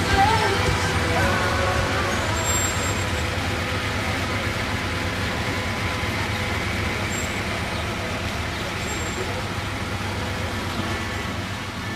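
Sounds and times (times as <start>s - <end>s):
car engine running low: 0.0s - 11.9s.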